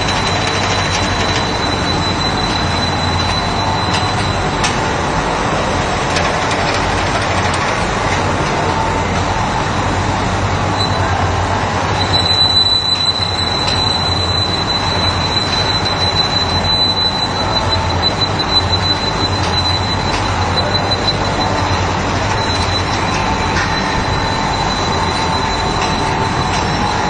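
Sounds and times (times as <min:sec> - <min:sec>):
conveyor and wrapping machinery: 0:00.0 - 0:27.0
high-pitched whine: 0:00.0 - 0:27.0.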